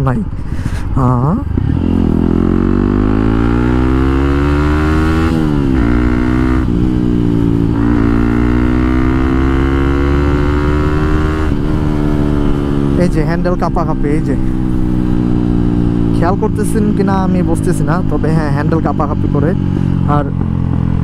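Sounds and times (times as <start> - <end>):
motorcycle engine revving: 1.0 - 21.0.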